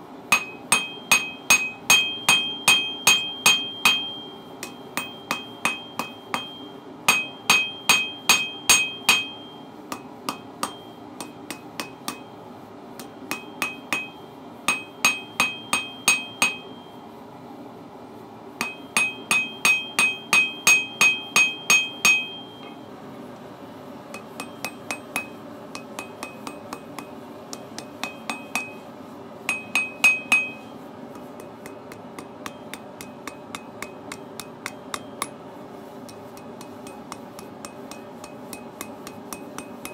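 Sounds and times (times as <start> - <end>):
hammer striking steel on anvil: 0.3 - 12.4, 13.0 - 16.9, 18.6 - 22.8, 24.1 - 28.9, 29.5 - 35.4, 36.0 - 39.9
light hammer taps on anvil: 0.3 - 12.4, 13.0 - 16.9, 18.6 - 22.8, 24.1 - 28.8, 29.5 - 35.4, 36.0 - 39.9.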